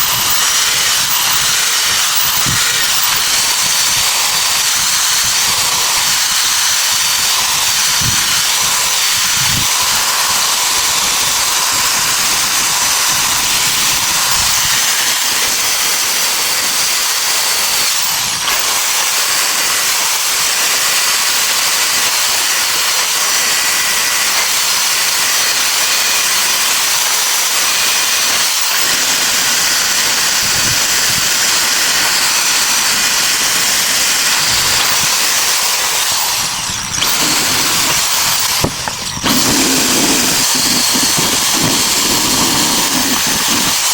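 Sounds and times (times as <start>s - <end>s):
loud hissing noise: 0.0s - 43.9s.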